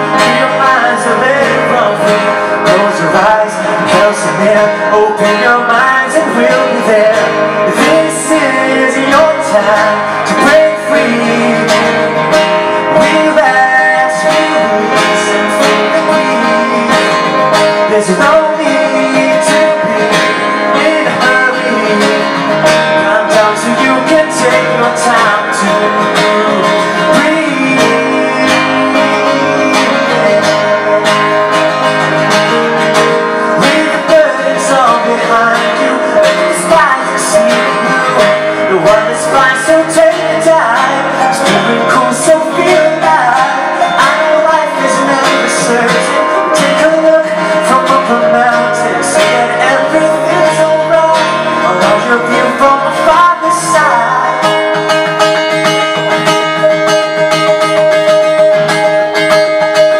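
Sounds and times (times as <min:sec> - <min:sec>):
man singing: 0:00.0 - 0:55.6
acoustic guitar: 0:00.0 - 0:59.9.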